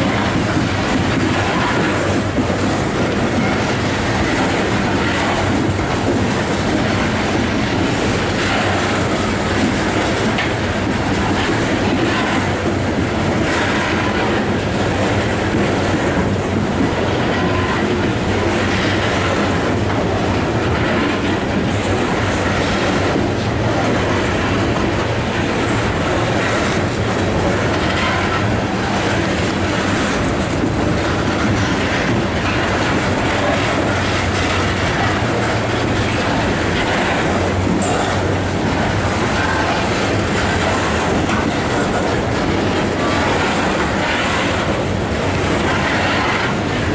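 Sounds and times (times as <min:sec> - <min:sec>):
freight train wheels clattering: 0:00.0 - 0:46.9.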